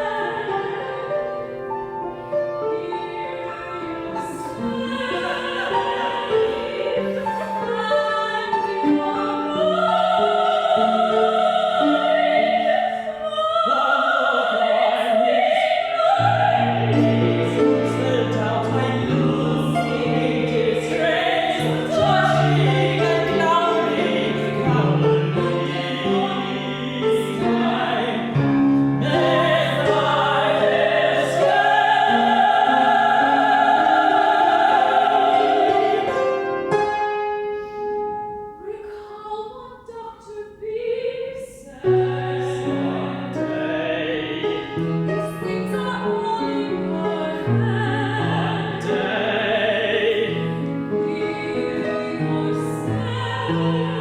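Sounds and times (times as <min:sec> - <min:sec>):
operatic singing: 0:00.0 - 0:36.7, 0:38.6 - 0:54.0
piano accompaniment: 0:00.0 - 0:39.2, 0:41.7 - 0:54.0.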